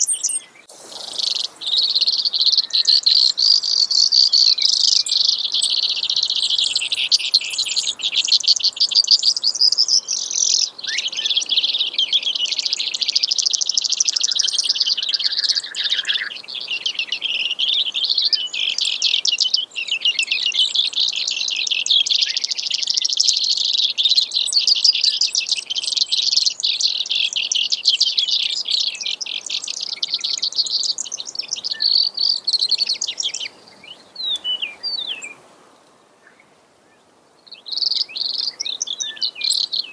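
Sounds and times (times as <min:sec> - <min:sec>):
sparrow singing rapid trills: 0:00.0 - 0:35.4, 0:37.4 - 0:39.9.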